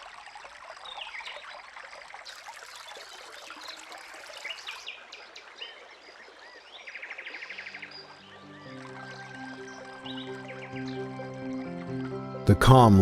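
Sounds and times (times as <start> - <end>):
running water: 0.0 - 13.0
small birds chirping: 0.7 - 12.2.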